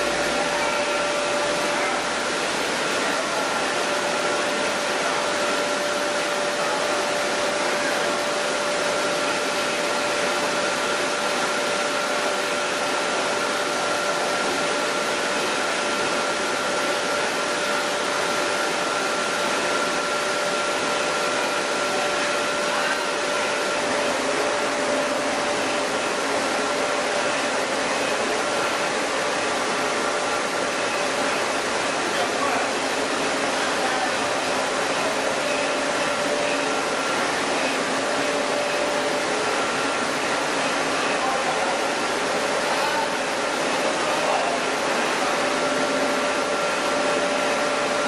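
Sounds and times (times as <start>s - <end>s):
higher machine whine: 0.0s - 48.0s.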